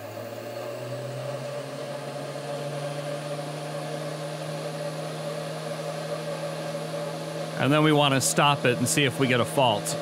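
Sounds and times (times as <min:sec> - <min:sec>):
milling machine spindle whine: 0:00.0 - 0:10.0.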